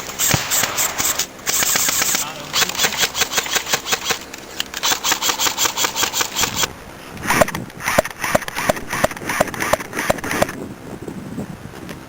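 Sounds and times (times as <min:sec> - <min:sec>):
airsoft guns firing: 0:00.0 - 0:10.5.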